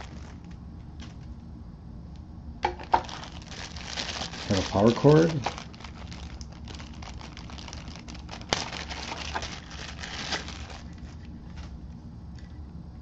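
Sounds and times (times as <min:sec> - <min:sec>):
plastic packaging crinkling: 0:00.0 - 0:01.4, 0:02.7 - 0:11.8.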